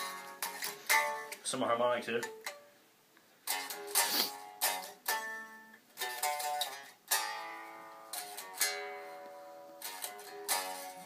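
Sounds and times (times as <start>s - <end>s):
guitar chords and harmonics: 0.0s - 1.4s, 3.5s - 11.0s.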